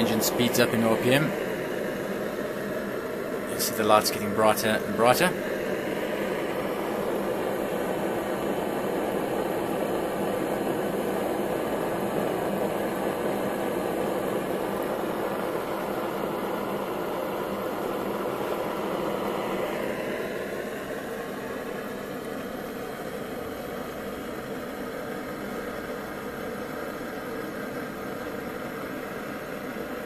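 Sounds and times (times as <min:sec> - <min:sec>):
engine mechanical whir with hiss: 0:00.0 - 0:30.0.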